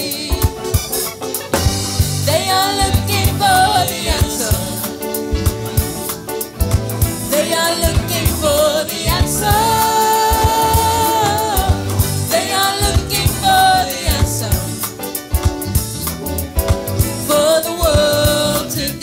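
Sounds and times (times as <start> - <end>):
band playing: 0.3 - 18.8
steady drum beat: 0.4 - 18.5.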